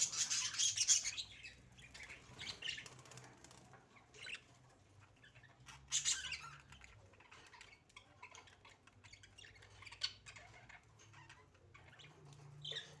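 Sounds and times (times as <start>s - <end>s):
budgerigars chattering and squawking: 0.0s - 3.1s, 4.0s - 13.0s.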